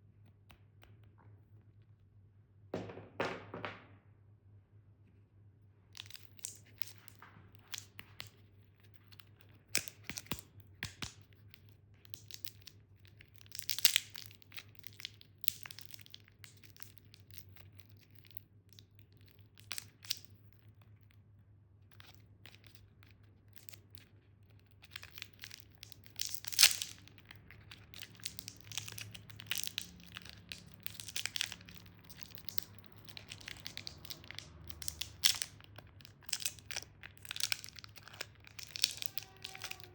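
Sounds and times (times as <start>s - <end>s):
faint low hum: 0.0s - 39.9s
plastic wrappers crinkling and tearing: 6.0s - 20.5s, 21.9s - 39.9s.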